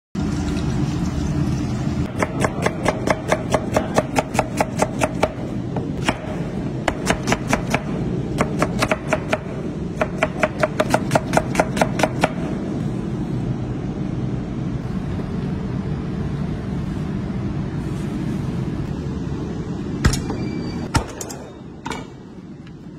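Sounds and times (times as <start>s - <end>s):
steady low hum: 0.2s - 22.9s.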